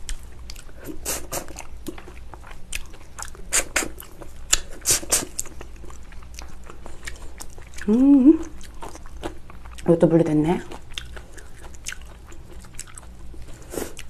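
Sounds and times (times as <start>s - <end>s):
wet chewing and mouth smacks: 0.0s - 9.9s, 10.6s - 14.0s.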